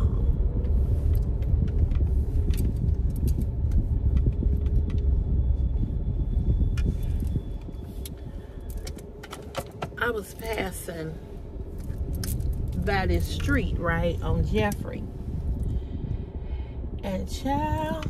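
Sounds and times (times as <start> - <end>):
road rumble inside moving car: 0.0 - 18.0.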